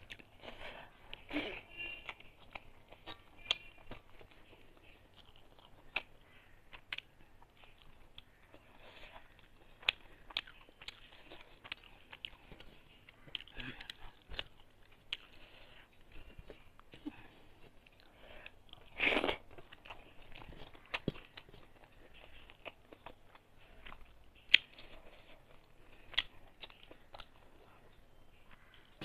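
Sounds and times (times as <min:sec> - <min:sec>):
faint chewing mouth sounds: 0:00.0 - 0:29.0.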